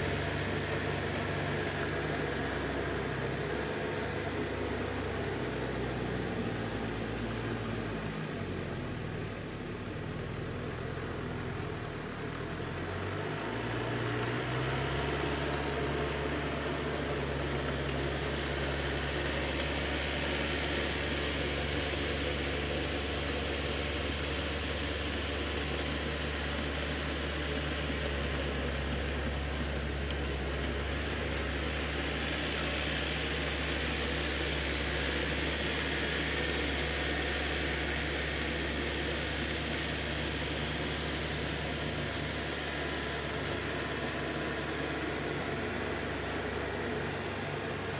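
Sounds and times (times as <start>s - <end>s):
tractor engine humming: 0.0s - 47.9s.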